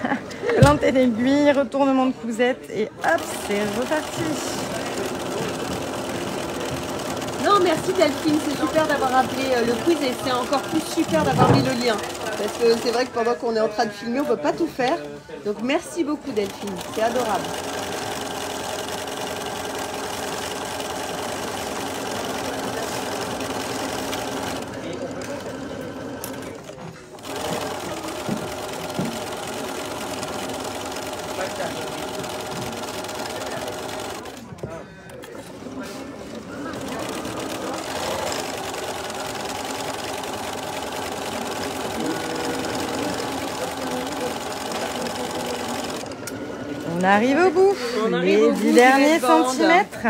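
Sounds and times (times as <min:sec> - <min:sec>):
electric sewing machine running: 0:03.0 - 0:13.4, 0:16.1 - 0:34.5, 0:35.6 - 0:47.7.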